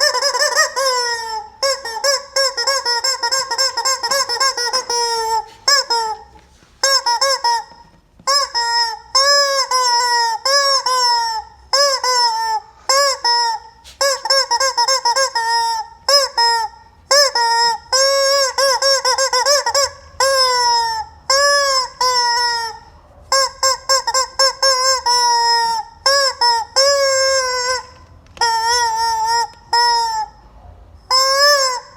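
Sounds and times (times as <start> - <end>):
rubber chicken toy squawking: 0.0 - 31.9.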